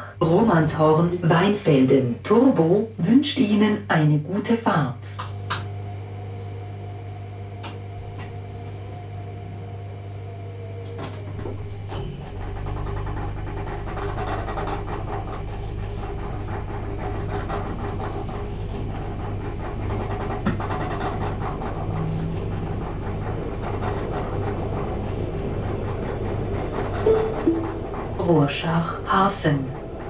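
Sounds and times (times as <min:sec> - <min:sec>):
deep traction motor hum: 0:00.0 - 0:30.0
train electrical equipment hum: 0:00.0 - 0:30.0.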